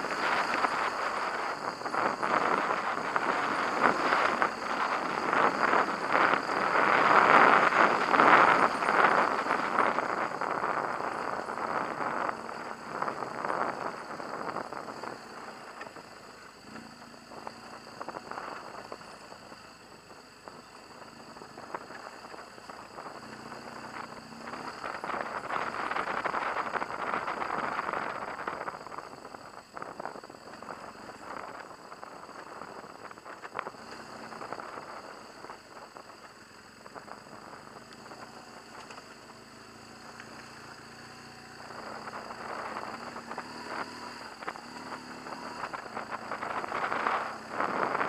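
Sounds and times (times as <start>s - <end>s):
wind on microphone: 0.0s - 39.0s, 40.6s - 48.0s
motorcycle engine running: 0.0s - 48.0s.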